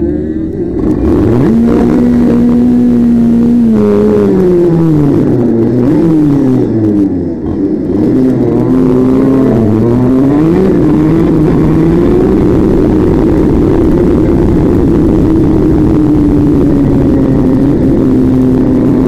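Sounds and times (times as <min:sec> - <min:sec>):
heavy low rumble: 0:00.0 - 0:19.0
vehicle engine revving: 0:00.0 - 0:19.0.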